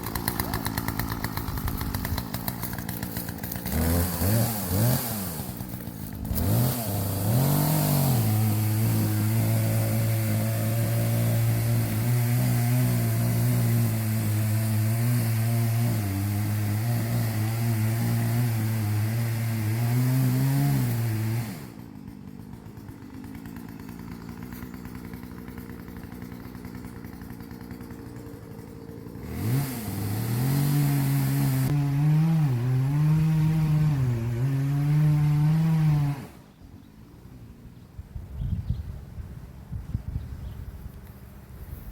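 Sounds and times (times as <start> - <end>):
chainsaw cutting wood: 0.0 - 36.5.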